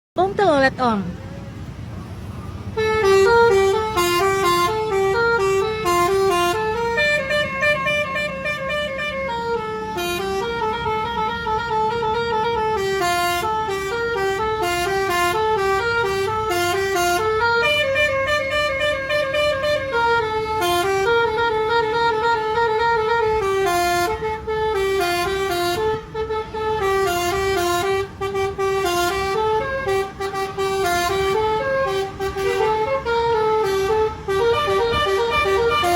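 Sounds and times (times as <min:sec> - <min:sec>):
low engine rumble: 0:00.2 - 0:35.9
bus musical horn tune: 0:02.7 - 0:35.9.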